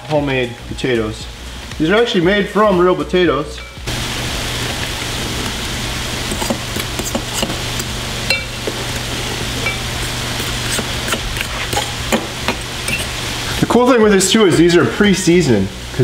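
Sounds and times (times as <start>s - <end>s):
meat sizzling in a skillet: 1.3s - 16.0s.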